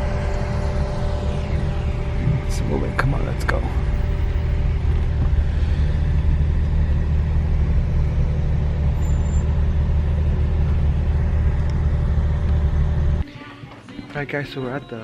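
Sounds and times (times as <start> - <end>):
car engine rumble: 0.0 - 13.3
road noise: 0.0 - 13.3.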